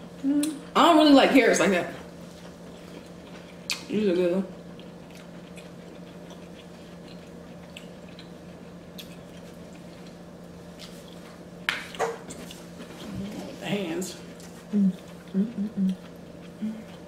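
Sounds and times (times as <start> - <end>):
low steady hum: 0.0 - 17.0
wet eating sounds: 2.0 - 13.5, 14.3 - 17.0.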